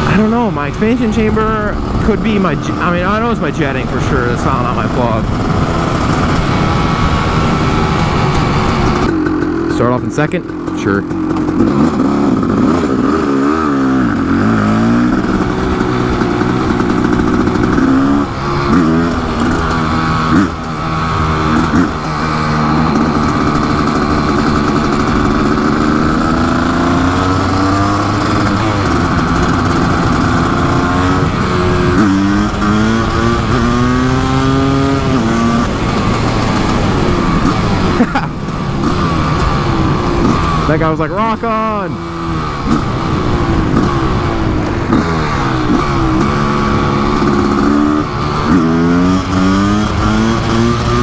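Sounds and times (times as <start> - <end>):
two-stroke motorcycle engine revving: 0.0 - 51.0.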